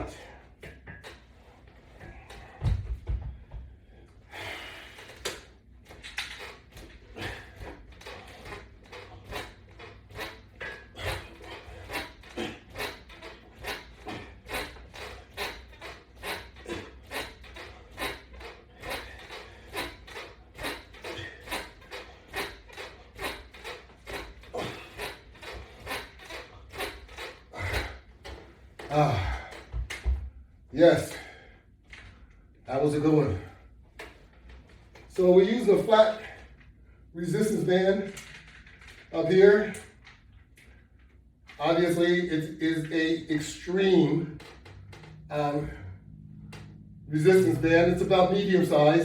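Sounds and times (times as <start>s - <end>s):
rhythmic short exercise sounds: 0.0s - 49.0s.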